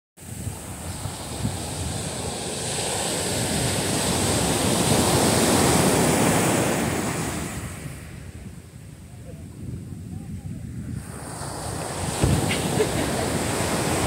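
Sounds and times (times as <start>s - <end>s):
surf breaking on a beach: 0.2s - 14.0s.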